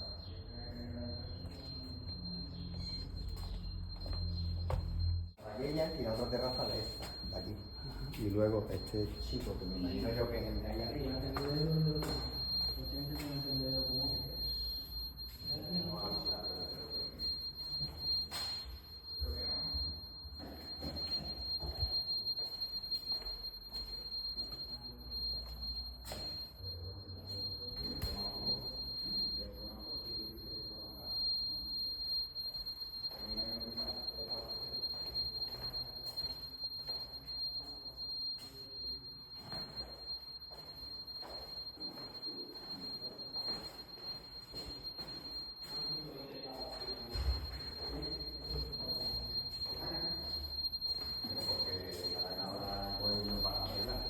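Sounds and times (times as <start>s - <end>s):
high-pitched whine: 0.0s - 38.8s, 45.7s - 54.0s
indistinct voices talking: 0.0s - 54.0s.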